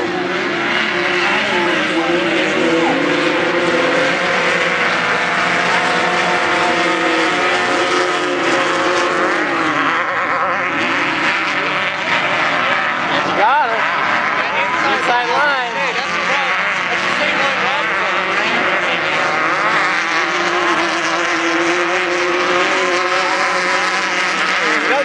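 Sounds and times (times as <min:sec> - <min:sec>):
race vehicle engines revving: 0:00.0 - 0:25.0.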